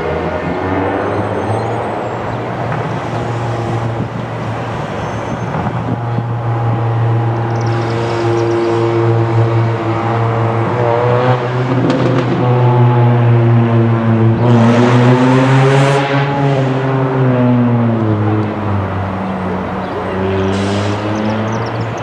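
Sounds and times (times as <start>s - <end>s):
diesel locomotive engines: 0.0s - 22.0s.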